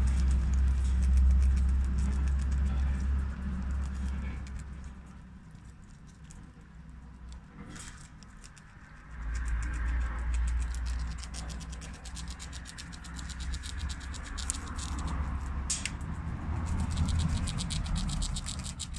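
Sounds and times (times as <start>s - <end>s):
squirrel gnawing: 0.0s - 18.9s.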